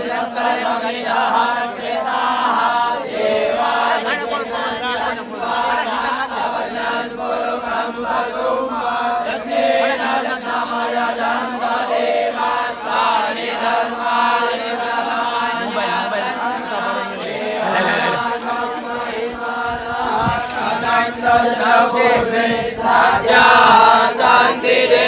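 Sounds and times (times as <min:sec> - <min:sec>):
group of voices chanting: 0:00.0 - 0:25.0.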